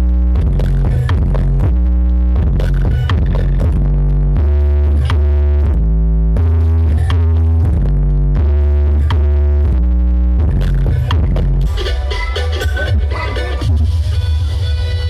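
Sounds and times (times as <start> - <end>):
loud electronic dance music: 0.0 - 15.0.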